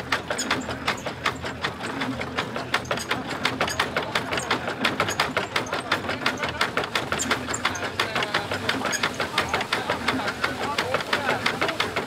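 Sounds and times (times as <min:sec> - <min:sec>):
winnowing mill clacking: 0:00.0 - 0:12.0.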